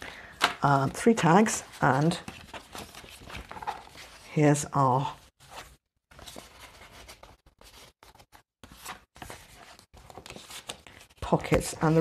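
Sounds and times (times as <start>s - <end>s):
paper rustling and scraping: 0.8s - 4.4s, 5.4s - 12.0s.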